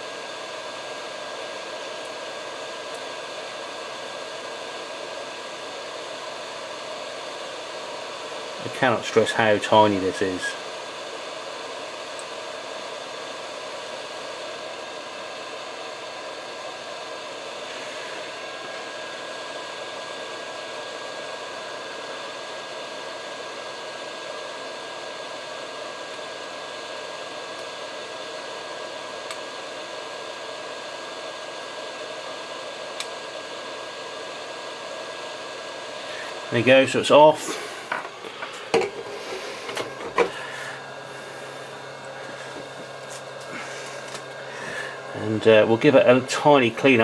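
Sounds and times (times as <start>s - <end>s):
hot-air gun hissing: 0.0s - 24.5s, 25.2s - 47.0s.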